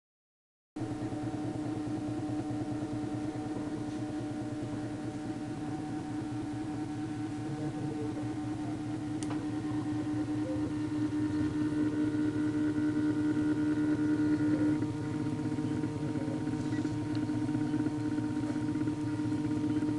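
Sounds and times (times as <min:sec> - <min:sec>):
stepper motor whining: 0:01.0 - 0:19.9.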